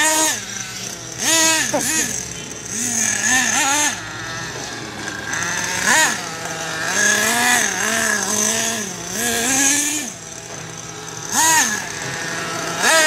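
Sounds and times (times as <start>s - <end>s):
rc car motor revving: 0.0s - 13.0s.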